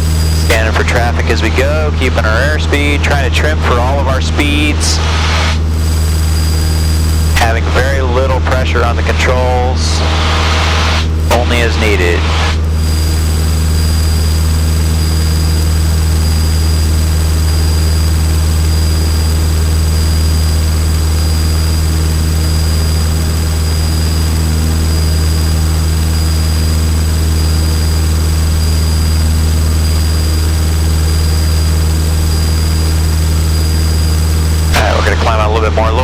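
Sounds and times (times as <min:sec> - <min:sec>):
propeller plane engine droning: 0:00.0 - 0:36.0.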